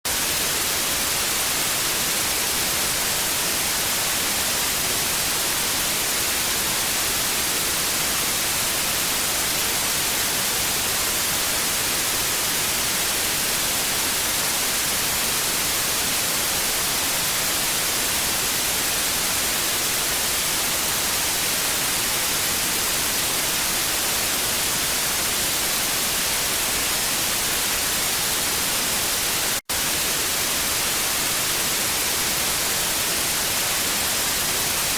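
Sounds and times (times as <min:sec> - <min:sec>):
tv static hiss: 0:00.1 - 0:34.9.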